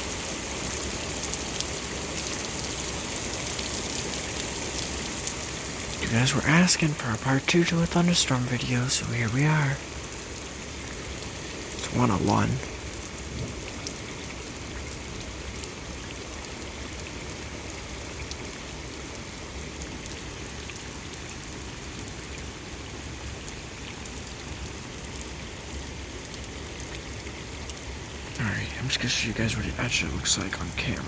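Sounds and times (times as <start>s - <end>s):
raindrops ticking: 0.0s - 31.0s
steady rain hissing: 0.0s - 31.0s.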